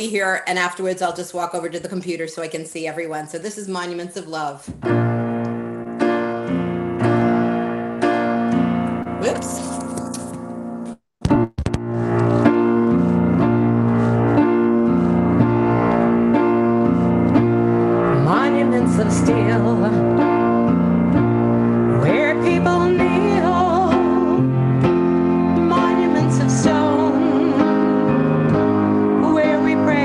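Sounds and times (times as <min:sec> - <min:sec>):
piano chords: 0:04.8 - 0:30.0.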